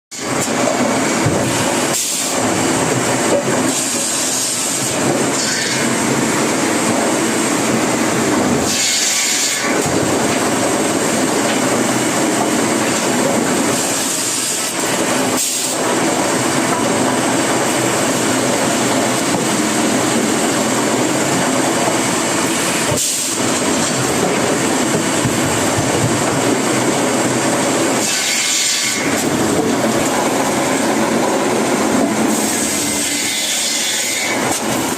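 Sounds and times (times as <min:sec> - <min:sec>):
sawmill saw blade running: 0:00.1 - 0:34.9.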